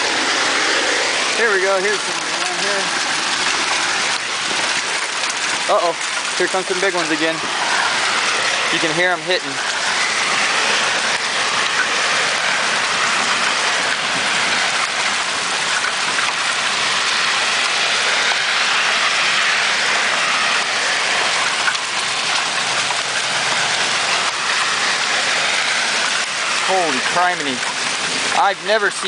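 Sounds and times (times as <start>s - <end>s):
hailstones clattering: 0.0s - 29.0s.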